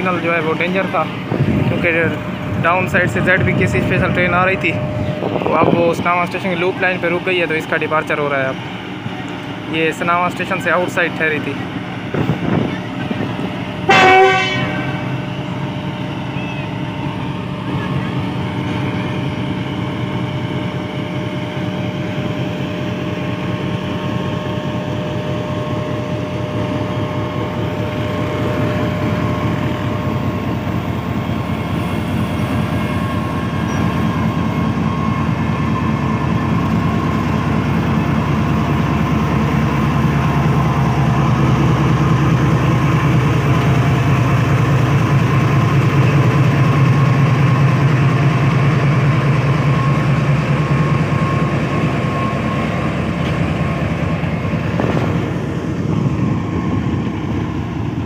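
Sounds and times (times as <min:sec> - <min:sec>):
locomotive engine running: 0:00.0 - 0:58.0.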